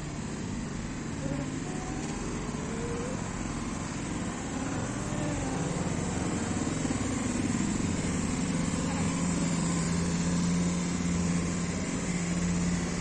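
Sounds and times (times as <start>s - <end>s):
road traffic: 0.0s - 13.0s
vehicle engine approaching: 1.2s - 13.0s.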